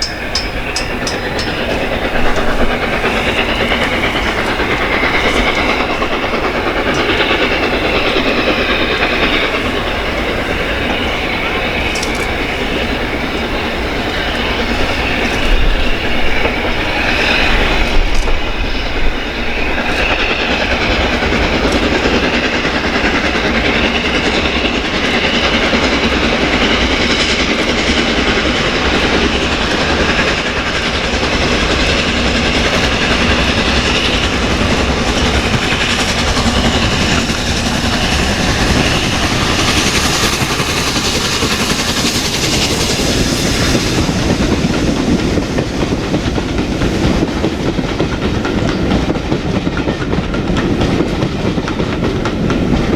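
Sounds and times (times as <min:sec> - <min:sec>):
train wheels clicking over rail joints: 0:00.0 - 0:52.9.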